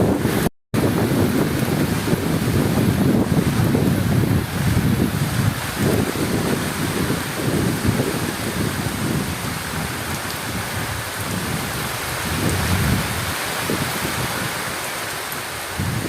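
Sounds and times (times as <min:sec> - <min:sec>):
rolling thunder rumbling: 0:00.0 - 0:14.8
heavy rain falling: 0:00.0 - 0:16.0.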